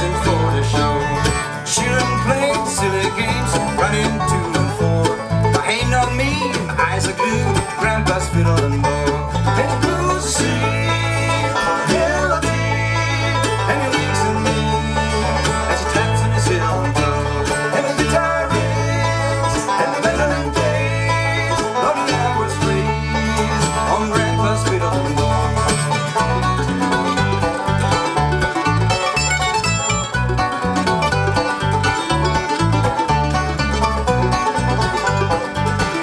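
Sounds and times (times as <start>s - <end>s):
acoustic guitar: 0.0s - 36.0s
banjo: 0.0s - 36.0s
bass pulse: 0.0s - 36.0s
mandolin: 0.0s - 36.0s.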